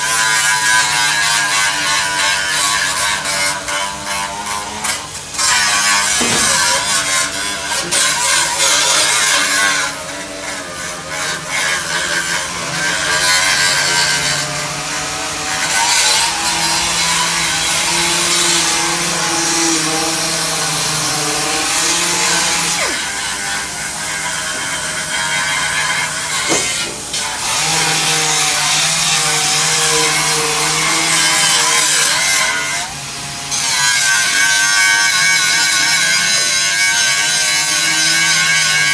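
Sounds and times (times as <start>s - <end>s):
power tool on sheet steel: 0.0s - 38.9s.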